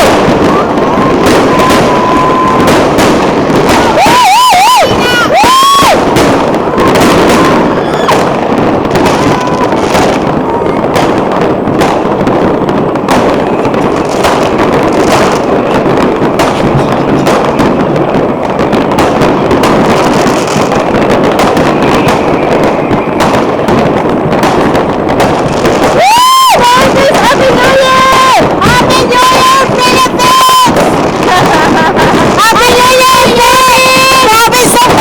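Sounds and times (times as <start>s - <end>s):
fireworks bangs and crackling: 0.0s - 35.0s
whistling rockets: 0.0s - 35.0s.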